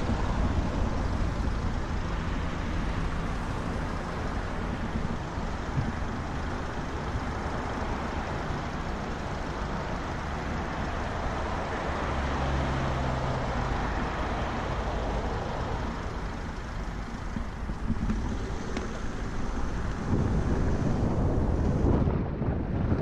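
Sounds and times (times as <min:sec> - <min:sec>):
wind rumble on microphone: 0:00.0 - 0:12.2, 0:15.6 - 0:23.0
road traffic: 0:00.0 - 0:23.0.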